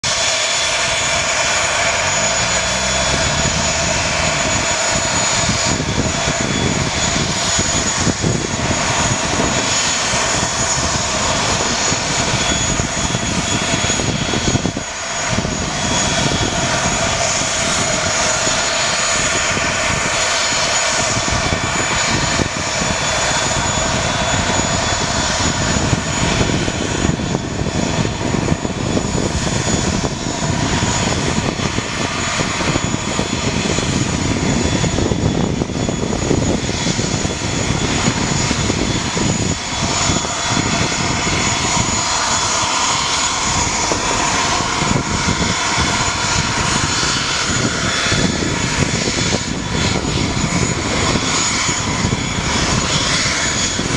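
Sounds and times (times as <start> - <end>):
high engine whine: 0.0 - 53.9
turboprop engines running: 0.0 - 53.9.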